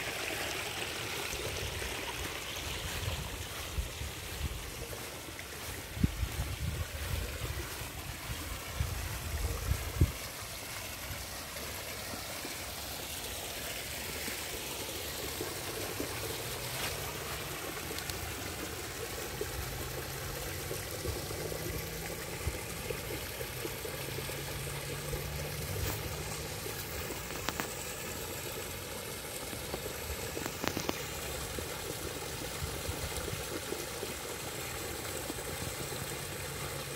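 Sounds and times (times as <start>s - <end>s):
water trickling over stones: 0.0s - 36.9s.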